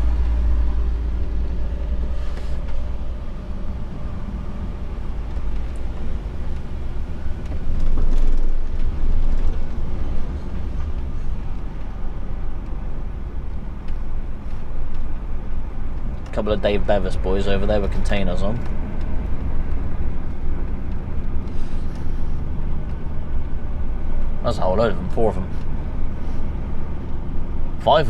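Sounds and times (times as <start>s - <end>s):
truck diesel engine rumbling: 0.0s - 28.0s.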